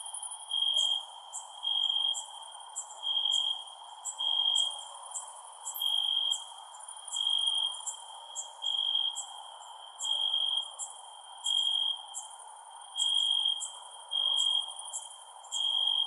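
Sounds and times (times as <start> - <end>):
cricket trilling: 0.0 - 16.0
insects chirping: 0.0 - 16.0.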